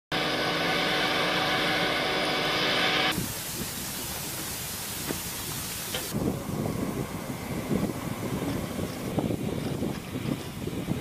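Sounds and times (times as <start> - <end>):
truck diesel engine running: 0.1 - 11.0
distant vehicle hiss: 0.2 - 11.0.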